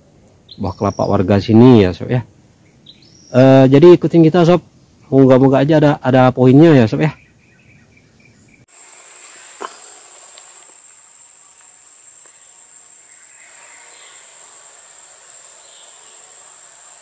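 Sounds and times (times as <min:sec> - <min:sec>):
insect chorus: 0:00.4 - 0:05.8, 0:06.4 - 0:17.0.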